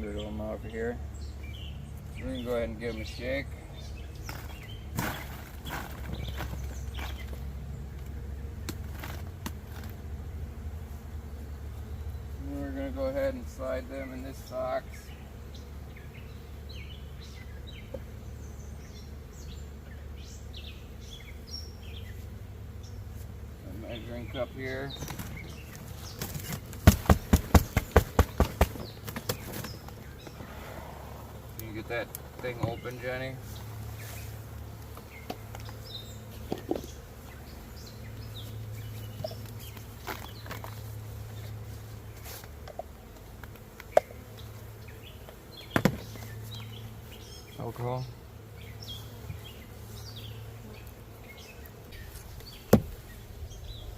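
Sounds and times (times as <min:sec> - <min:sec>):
small birds chirping: 0:00.0 - 0:10.0, 0:11.6 - 0:53.9
bees buzzing: 0:00.0 - 0:53.9
honeybees humming: 0:00.0 - 0:53.9.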